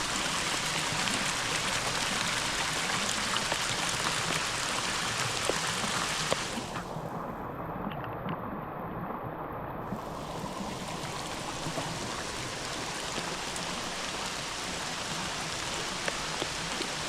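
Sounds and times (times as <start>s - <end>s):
hard rain falling: 0.0s - 6.8s, 9.9s - 17.0s
creek rushing: 0.0s - 7.8s, 9.8s - 17.0s.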